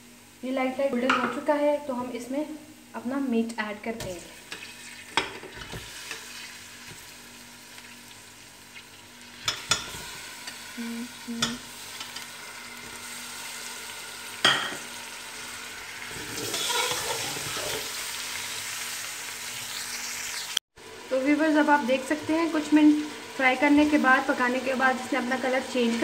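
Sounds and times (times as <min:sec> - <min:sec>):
meat sizzling in oil: 0:04.0 - 0:26.0.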